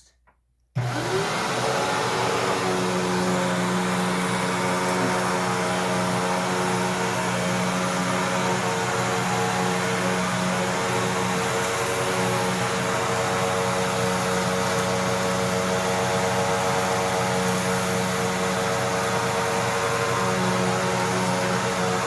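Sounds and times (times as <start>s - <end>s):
upright vacuum cleaner running: 0.8s - 22.0s.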